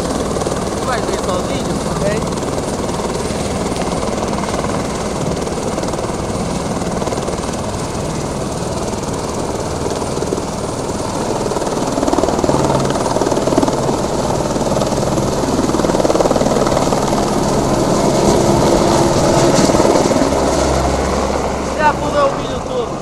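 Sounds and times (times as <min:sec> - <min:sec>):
helicopter rotor chop and turbine: 0:00.0 - 0:23.0.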